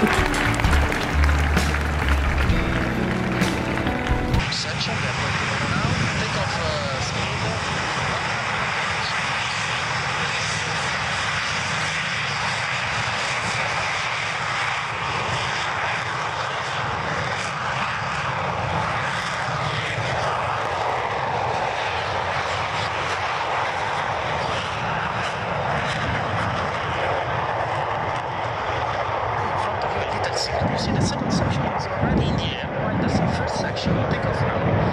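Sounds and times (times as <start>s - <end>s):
jet engines running: 0.0s - 34.9s.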